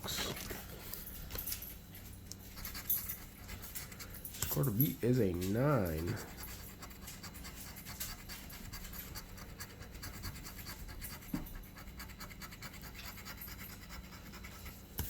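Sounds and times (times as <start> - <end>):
scratching lottery ticket coating: 2.0 - 15.0.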